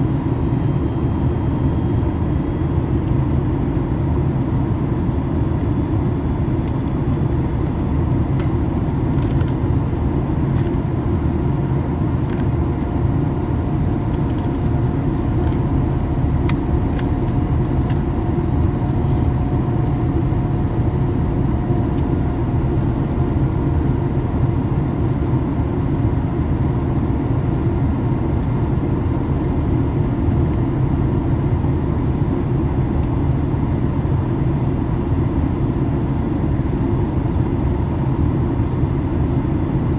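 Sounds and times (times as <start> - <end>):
airflow roar in cabin: 0.0 - 39.9
faint steady whine: 0.0 - 39.9
jet engines droning: 0.0 - 39.9.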